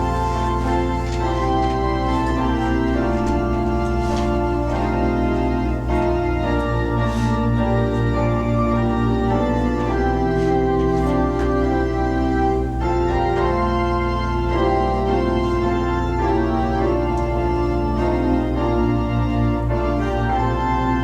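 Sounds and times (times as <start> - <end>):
organ chords: 0.0 - 21.0.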